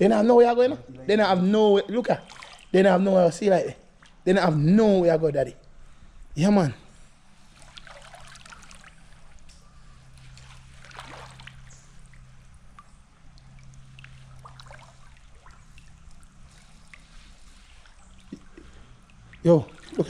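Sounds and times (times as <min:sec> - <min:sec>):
river water trickling: 0:00.0 - 0:20.0
steady low hum: 0:00.0 - 0:20.0.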